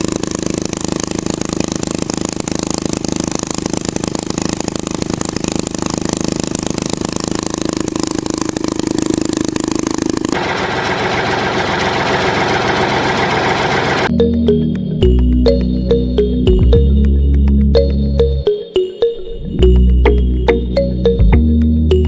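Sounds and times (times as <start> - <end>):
small diesel engine running: 0.0 - 18.5
dull engine noise: 0.0 - 18.6, 19.4 - 22.0.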